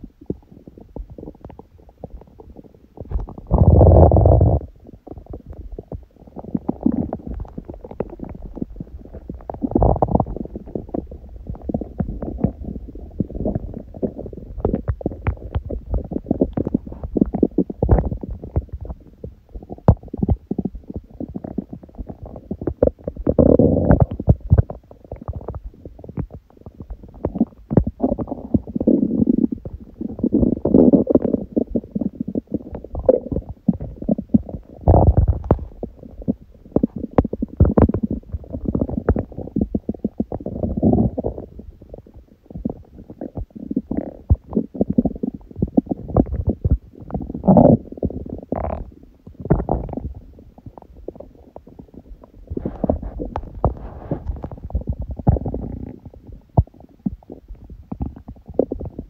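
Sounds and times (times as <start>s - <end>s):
stomach growling: 0.0s - 59.0s.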